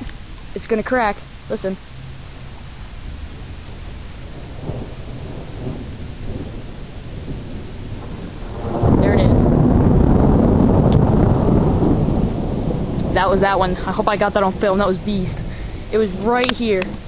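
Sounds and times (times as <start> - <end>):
thunder rumbling and crashing: 2.7 - 17.0.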